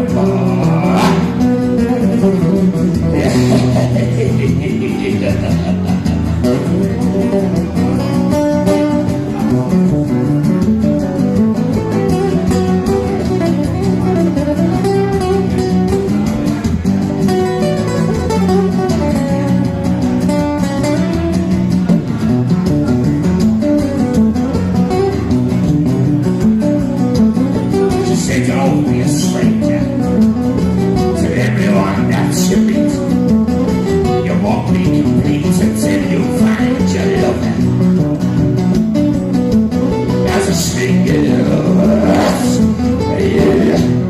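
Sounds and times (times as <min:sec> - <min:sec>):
flamenco guitar music: 0:00.0 - 0:44.0.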